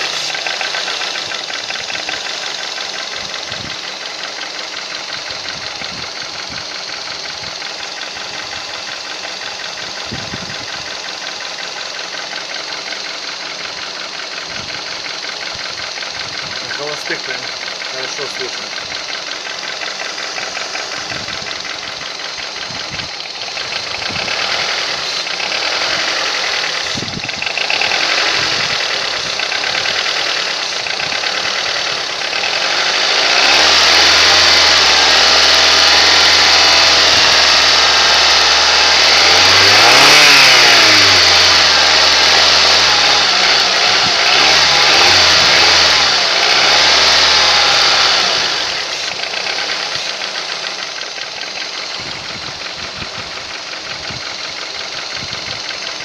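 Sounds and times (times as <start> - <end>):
car engine idling and revving: 0.0 - 56.0
engine knocking: 0.0 - 56.0.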